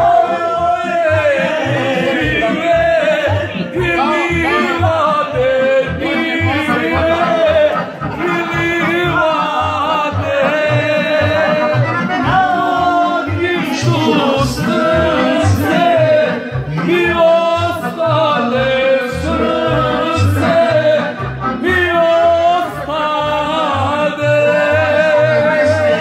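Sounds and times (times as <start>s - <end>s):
backing track with pulsing bass: 0.0s - 26.0s
man singing into microphone: 0.0s - 26.0s.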